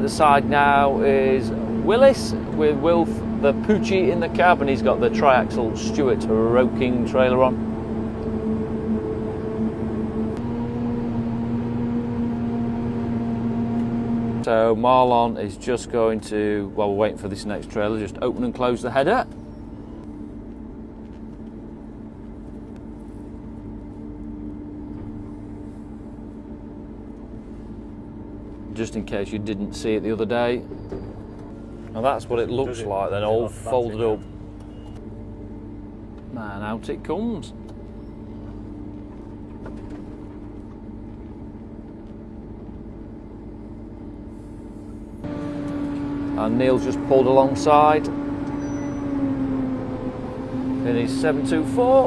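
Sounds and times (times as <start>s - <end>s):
harvester engine drone: 0.0s - 52.0s.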